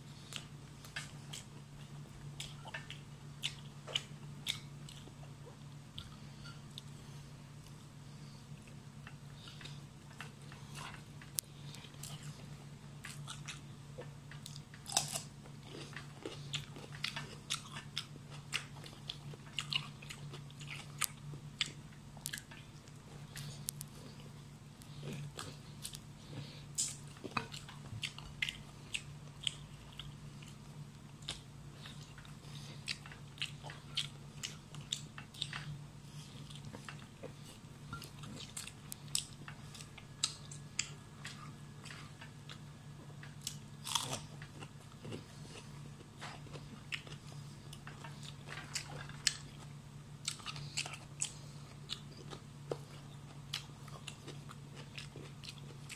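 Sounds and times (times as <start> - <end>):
person chewing fried chicken: 0.0 - 55.9
steady low hum: 0.0 - 55.9.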